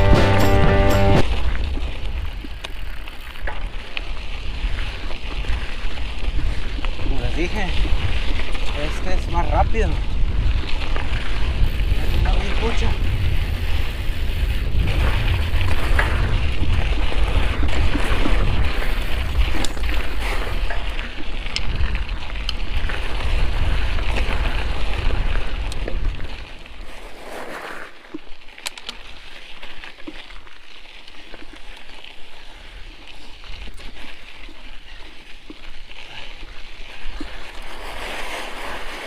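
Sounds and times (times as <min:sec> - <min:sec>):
bike clicks: 0:00.0 - 0:27.2, 0:27.8 - 0:39.0
bike tyres on dirt: 0:00.0 - 0:39.0
wind rumbling on microphone: 0:00.0 - 0:39.0.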